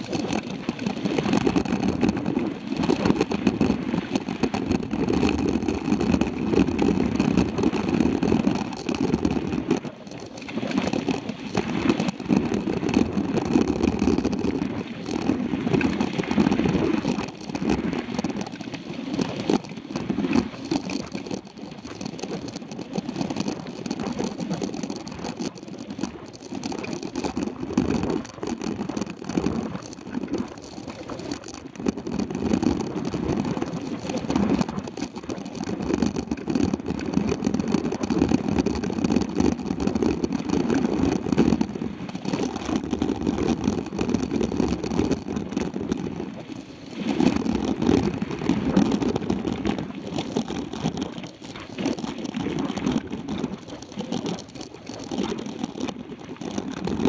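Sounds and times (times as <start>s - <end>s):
bike tyres rumbling on gravel: 0.0s - 57.0s
small clicks and rattles: 0.0s - 57.0s.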